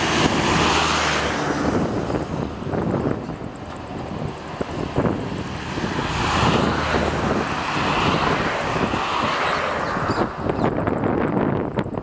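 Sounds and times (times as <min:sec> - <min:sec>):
jet engines roaring: 0:00.0 - 0:10.7
wind buffeting microphone: 0:00.0 - 0:12.0.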